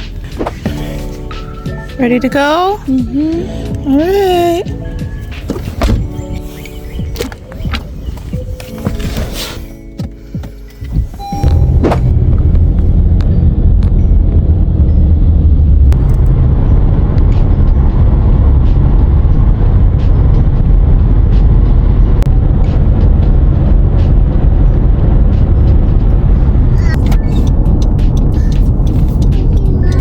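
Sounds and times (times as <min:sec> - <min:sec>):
car driving interior rumble: 0:00.0 - 0:30.0.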